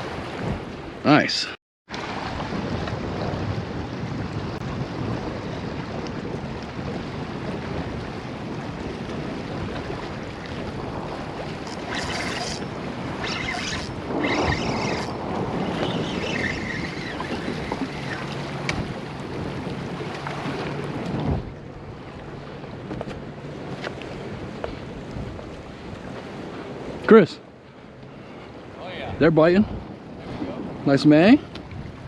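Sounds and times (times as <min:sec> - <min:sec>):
wind on microphone: 0:00.0 - 0:27.1, 0:28.2 - 0:32.0.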